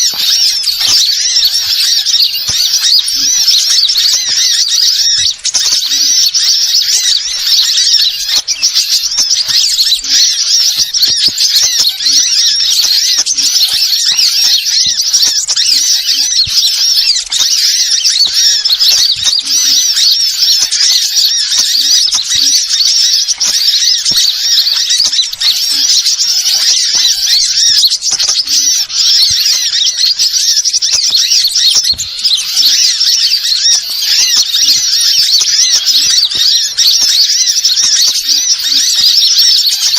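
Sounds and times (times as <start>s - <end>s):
small birds twittering and chirping: 0.0s - 39.9s.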